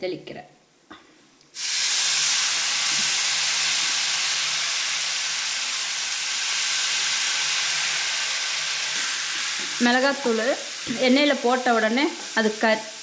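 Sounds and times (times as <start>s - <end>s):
water sizzling in hot oil: 1.6s - 13.0s.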